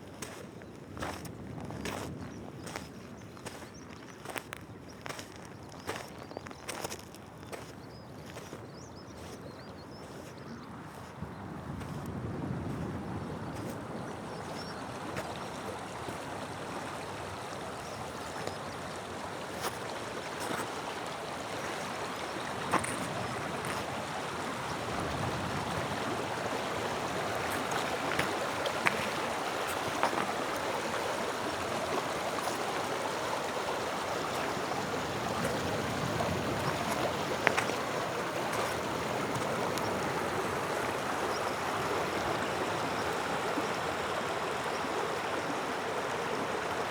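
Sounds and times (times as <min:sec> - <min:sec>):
stream gurgling over stones: 0:00.0 - 0:46.9.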